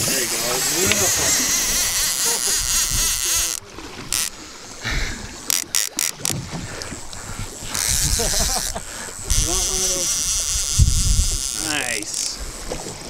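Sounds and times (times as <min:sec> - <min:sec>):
wind buffeting microphone: 0:00.0 - 0:04.1, 0:06.4 - 0:13.0
fishing reel cranking: 0:00.0 - 0:04.4, 0:05.5 - 0:06.4, 0:07.5 - 0:12.6
water noise: 0:00.0 - 0:13.0.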